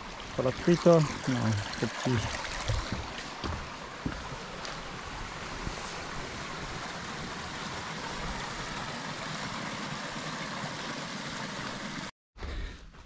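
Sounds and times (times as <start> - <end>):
stream water rushing: 0.0 - 12.1.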